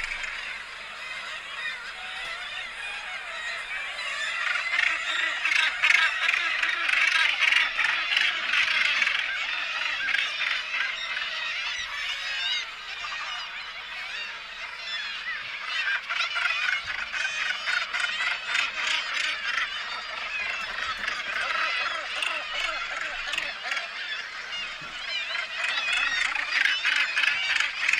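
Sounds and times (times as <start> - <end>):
flock of birds honking: 0.0 - 27.9.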